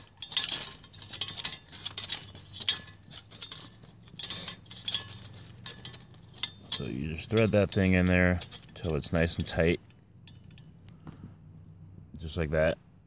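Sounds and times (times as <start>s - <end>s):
metal parts clinking: 0.0s - 10.8s.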